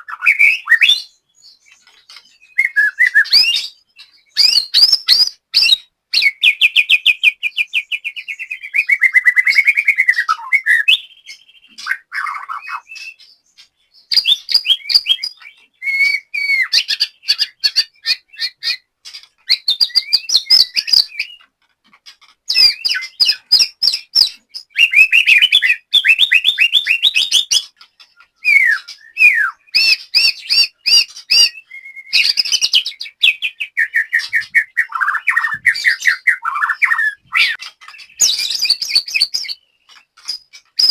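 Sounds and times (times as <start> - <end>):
songbird singing varied phrases: 0.0 - 21.5, 22.1 - 40.9.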